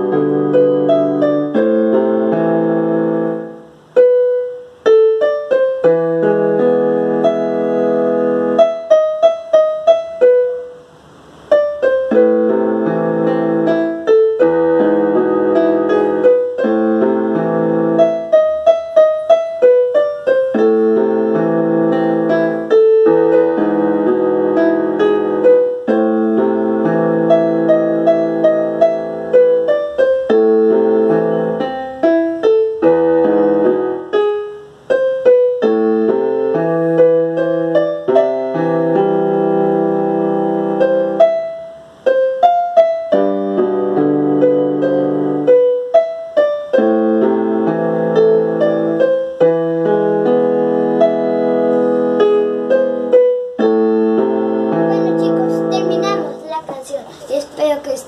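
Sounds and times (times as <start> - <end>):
electronic keyboard piano melody: 0.0 - 58.0.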